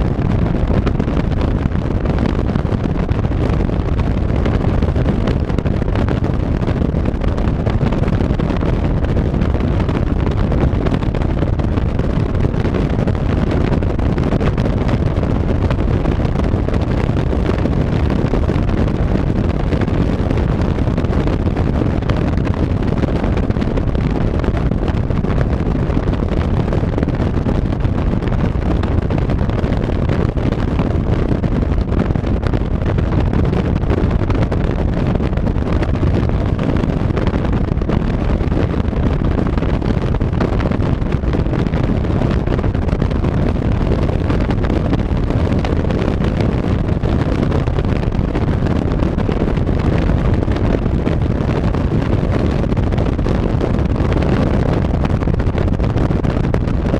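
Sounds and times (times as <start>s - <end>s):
car road and engine rumble: 0.0s - 56.9s
wind buffeting microphone: 0.0s - 56.9s.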